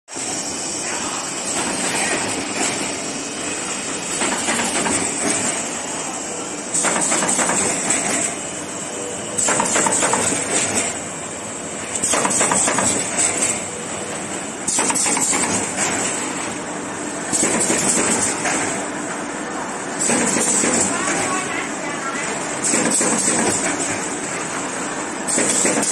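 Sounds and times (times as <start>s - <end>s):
machine clattering with high hiss: 0.1s - 25.9s.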